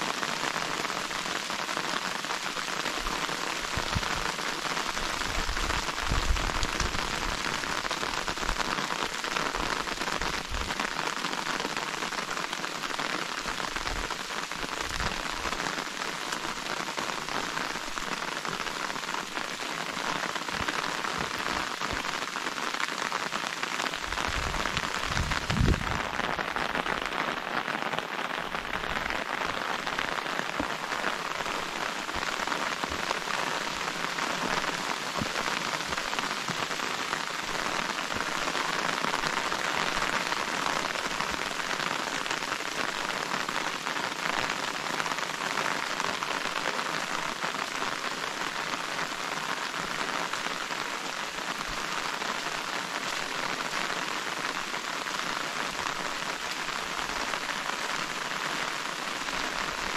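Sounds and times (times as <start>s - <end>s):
rain pattering on surfaces: 0.0s - 59.9s.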